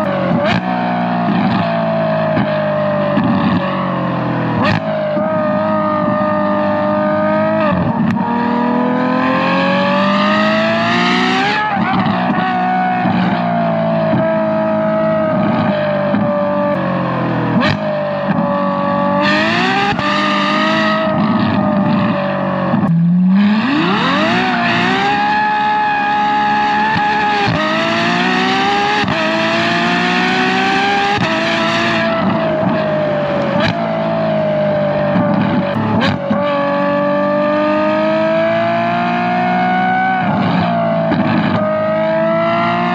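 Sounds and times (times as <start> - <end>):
car engine accelerating through gears: 0.0 - 42.9.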